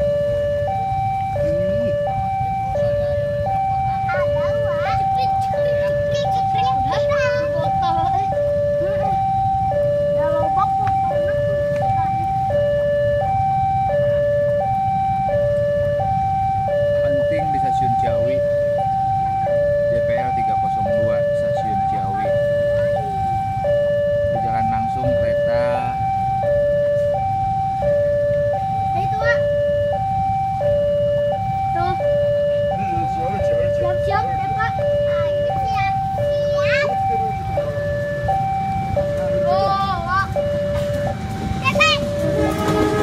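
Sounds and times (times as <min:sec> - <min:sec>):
two-tone level-crossing alarm: 0:00.0 - 0:43.0.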